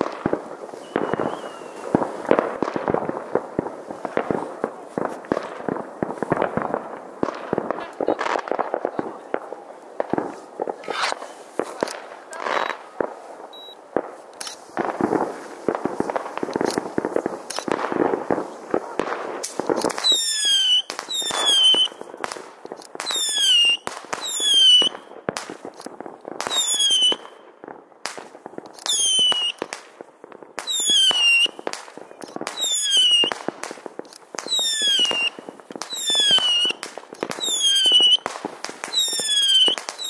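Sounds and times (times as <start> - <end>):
firework bangs and crackling: 0.0 - 40.0
whistling fireworks: 0.0 - 40.0.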